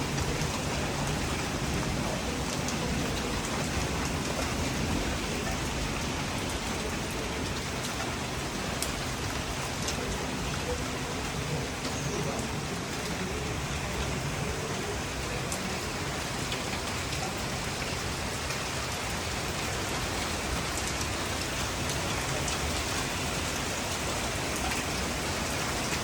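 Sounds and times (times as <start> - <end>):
raindrops ticking: 0.0 - 26.0
steady rain hiss: 0.0 - 26.0.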